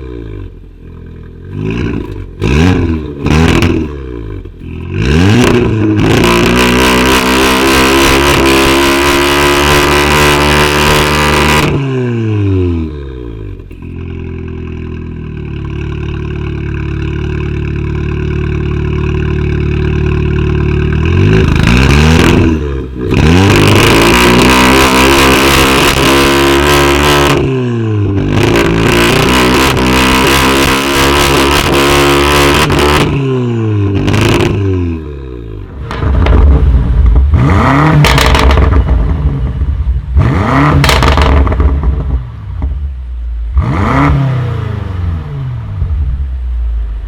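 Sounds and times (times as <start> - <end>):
car engine revving and idling: 0.0 - 47.0.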